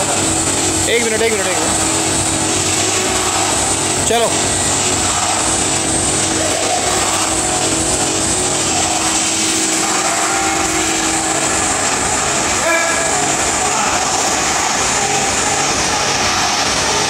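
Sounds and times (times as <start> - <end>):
loud rushing noise: 0.0 - 17.0.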